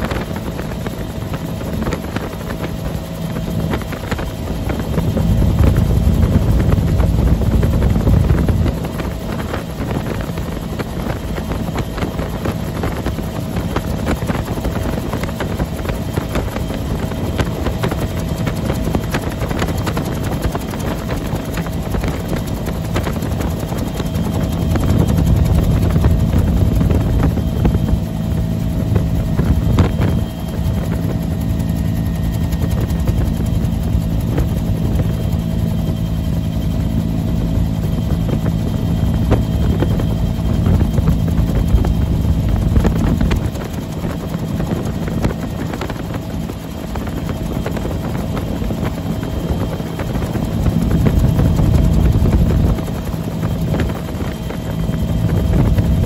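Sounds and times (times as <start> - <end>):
helicopter drone in flight: 0.0 - 56.0.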